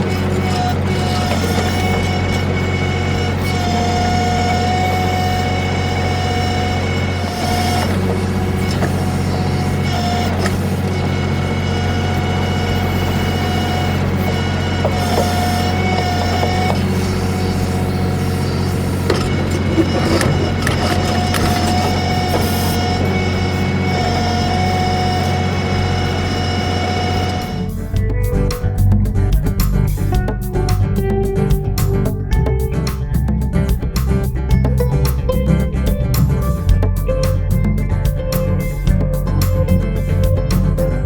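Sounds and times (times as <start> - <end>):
hydraulic whine: 0.0 - 41.0
tractor diesel engine running: 0.0 - 41.0.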